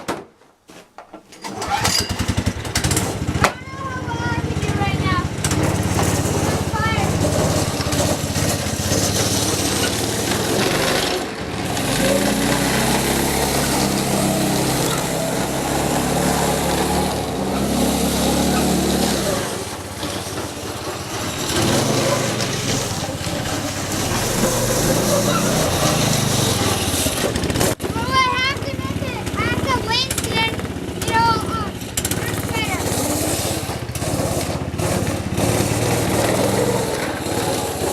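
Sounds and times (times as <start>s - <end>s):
snowmobile engine revving: 1.4s - 37.9s.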